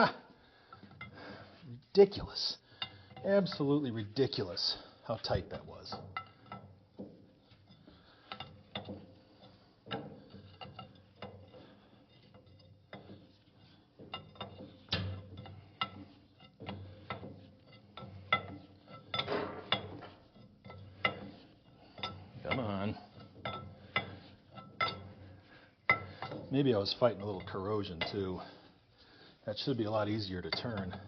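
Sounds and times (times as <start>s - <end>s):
wrenches clicking on metal: 2.2s - 31.0s.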